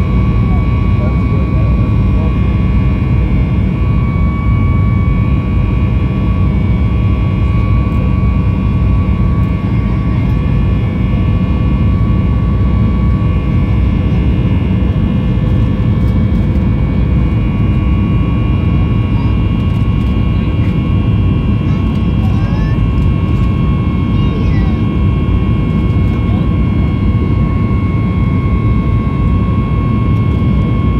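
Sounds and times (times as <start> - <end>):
jet engine rumble: 0.0 - 30.9
whining fan tones: 0.0 - 30.9.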